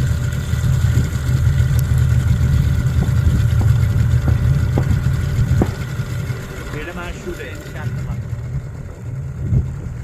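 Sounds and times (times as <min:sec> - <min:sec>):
boat motor rumbling: 0:00.0 - 0:10.0.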